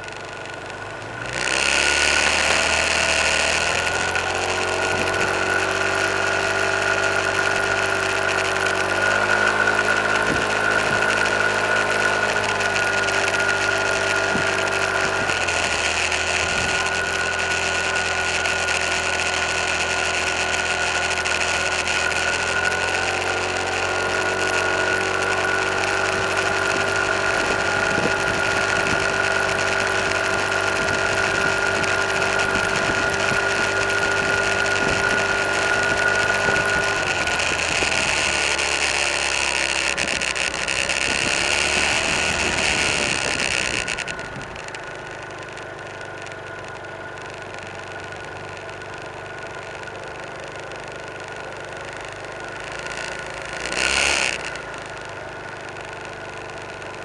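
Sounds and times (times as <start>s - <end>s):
car engine drone from inside: 0.0s - 57.0s.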